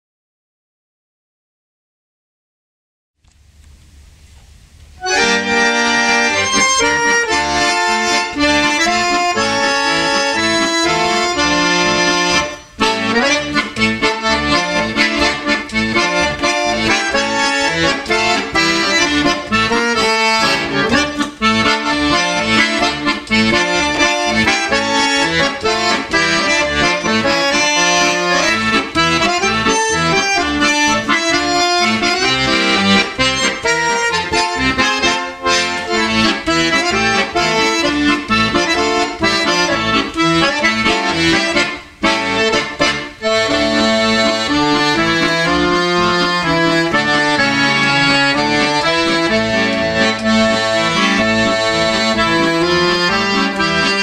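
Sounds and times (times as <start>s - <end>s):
button accordion playing solo: 5.0s - 54.0s.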